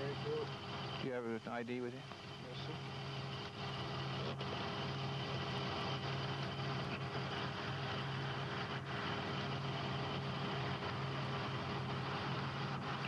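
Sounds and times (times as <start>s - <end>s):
constant hiss: 0.0s - 13.0s
vehicle engine idling: 0.0s - 13.0s.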